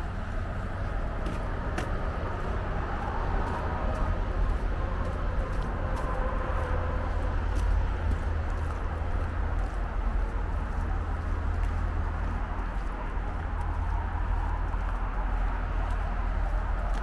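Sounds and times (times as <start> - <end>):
highway traffic rumble: 0.0 - 17.0.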